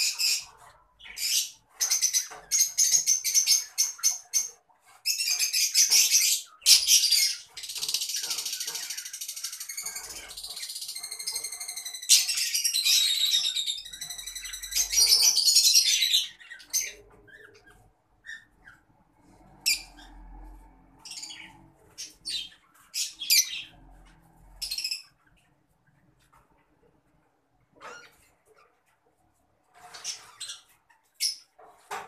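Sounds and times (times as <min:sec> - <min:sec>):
lovebirds chattering: 0:00.0 - 0:20.4, 0:21.0 - 0:26.9.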